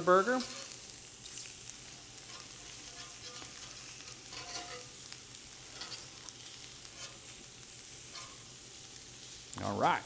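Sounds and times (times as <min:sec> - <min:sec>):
patties sizzling on grill: 0:00.0 - 0:10.0
metal spatula scraping: 0:00.2 - 0:08.6.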